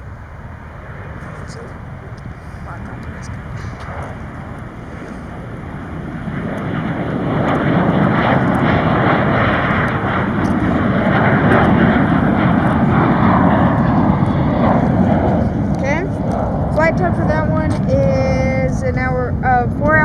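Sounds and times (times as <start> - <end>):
jet engines at takeoff power: 0.0 - 20.0.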